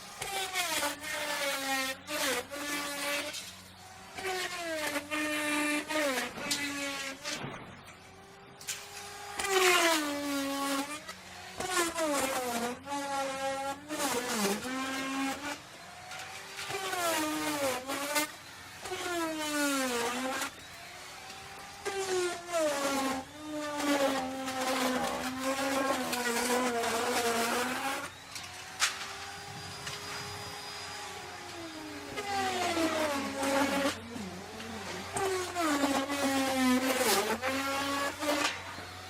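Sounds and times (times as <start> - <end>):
wood router cutting wood: 0.0 - 39.0.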